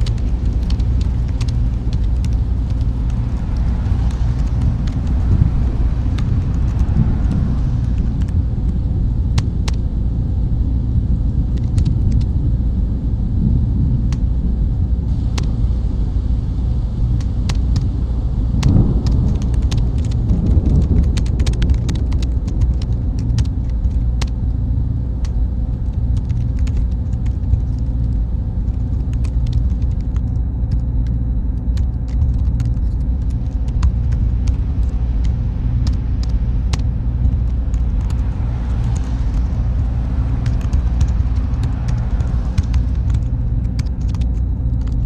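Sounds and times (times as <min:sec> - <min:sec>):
small irregular clicks and ticks: 0:00.0 - 0:09.8, 0:11.5 - 0:12.4, 0:15.4 - 0:15.6, 0:17.1 - 0:45.0
faint steady hum: 0:00.0 - 0:45.0
low machine rumble: 0:00.0 - 0:45.0.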